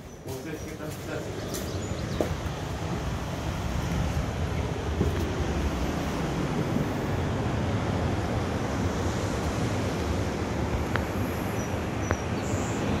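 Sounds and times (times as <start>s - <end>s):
wind on microphone: 0.0s - 13.0s
ocean surf breaking: 0.5s - 13.0s.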